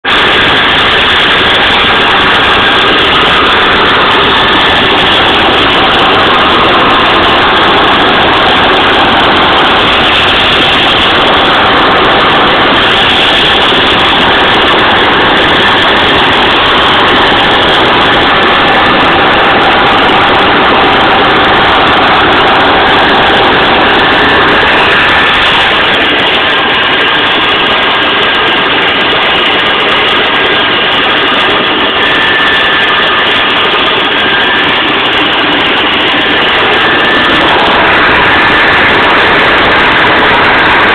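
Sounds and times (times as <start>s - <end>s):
helicopter engine running: 0.0s - 40.9s.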